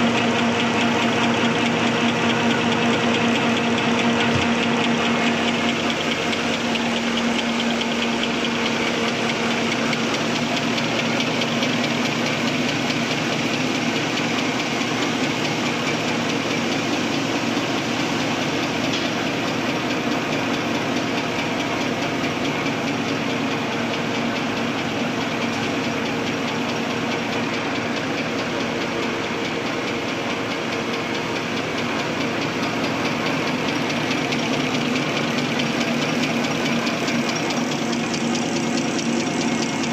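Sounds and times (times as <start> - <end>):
constant machine hum: 0.0 - 39.9
rapid mechanical clatter: 0.0 - 39.9.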